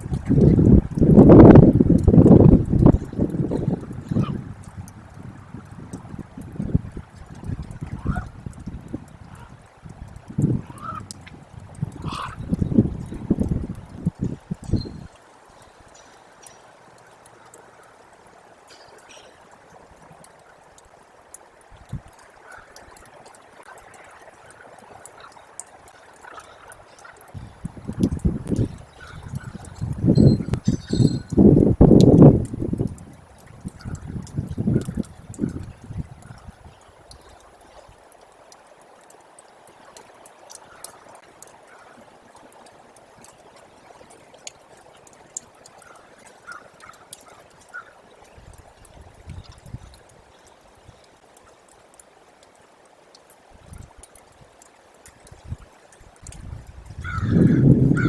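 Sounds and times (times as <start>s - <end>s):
faint ticks: 0.0s - 58.0s
water trickling: 0.0s - 58.0s.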